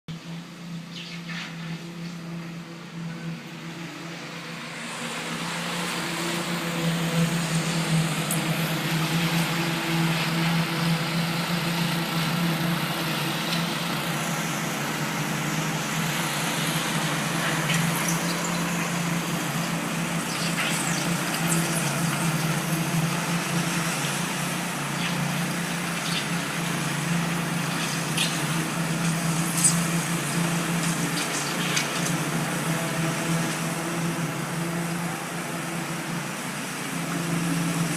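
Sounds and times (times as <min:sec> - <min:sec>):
machinery engine drone: 0:00.1 - 0:37.9.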